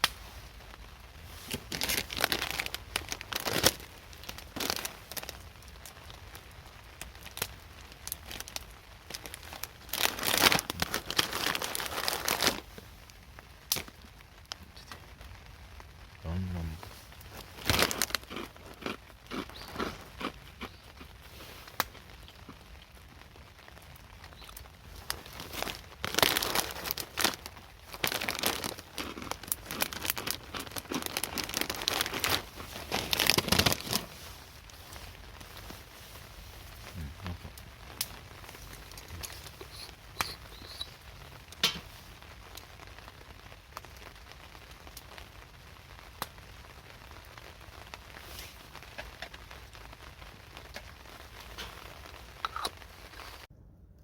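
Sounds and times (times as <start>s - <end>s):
crinkling and rustling: 0.0s - 15.2s, 16.8s - 23.0s, 24.2s - 43.0s, 47.8s - 53.5s.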